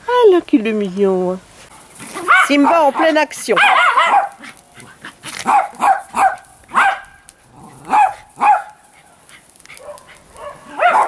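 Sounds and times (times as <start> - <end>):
small dog yapping: 2.0 - 11.0.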